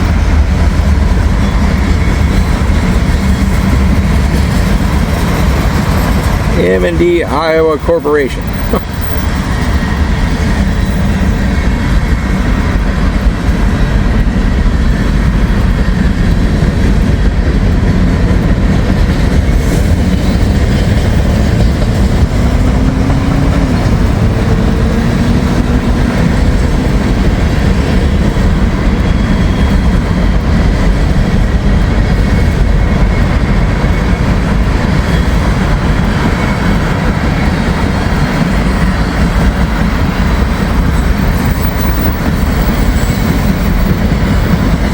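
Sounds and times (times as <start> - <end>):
freight train cars rolling past: 0.0 - 44.9.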